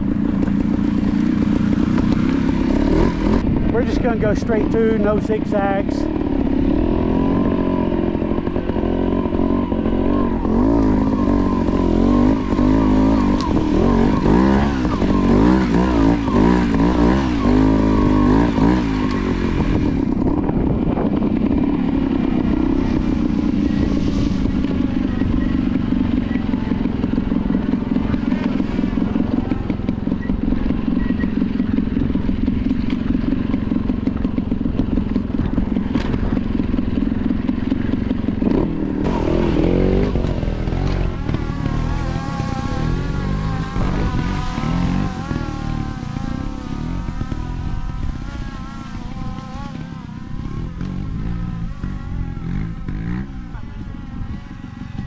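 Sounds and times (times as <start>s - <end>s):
motorcycle engine with throttle blips: 0.0s - 55.0s.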